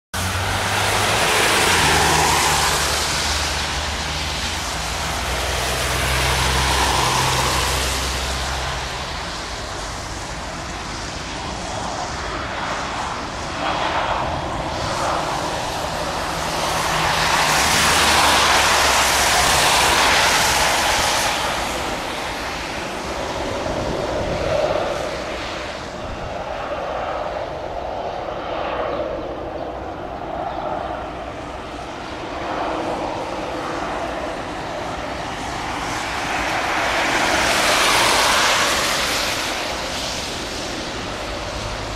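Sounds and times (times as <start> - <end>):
jet engines taxiing: 0.2 - 41.9.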